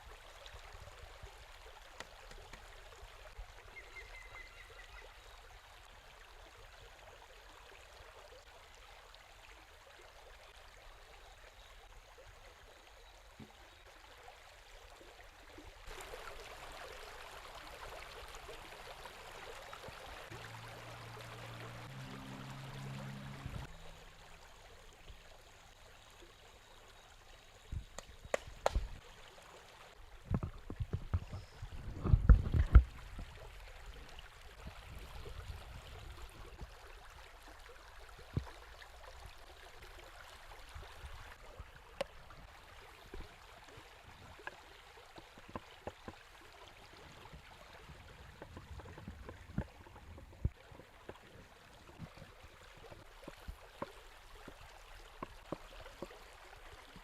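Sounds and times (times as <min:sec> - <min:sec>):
river water running: 0:00.0 - 0:57.0.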